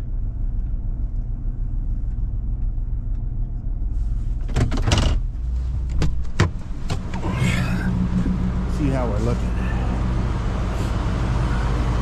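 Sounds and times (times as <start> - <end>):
truck engine low rumble: 0.0 - 12.0.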